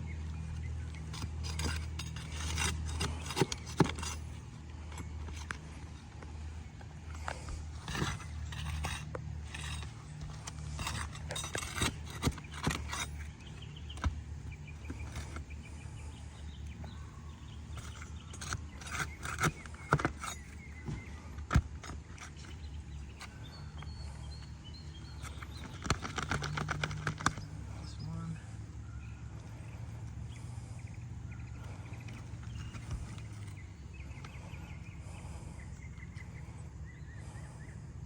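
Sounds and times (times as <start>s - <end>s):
metal bar scraping shingle: 0.4s - 27.8s, 31.6s - 35.6s.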